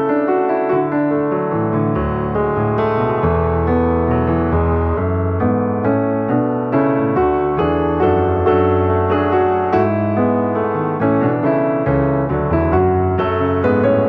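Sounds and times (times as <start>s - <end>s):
background piano music: 0.0s - 14.0s.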